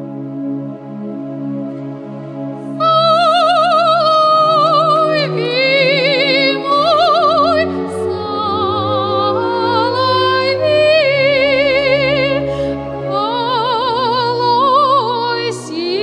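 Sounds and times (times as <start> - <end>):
woman singing operatically: 2.8 - 16.0.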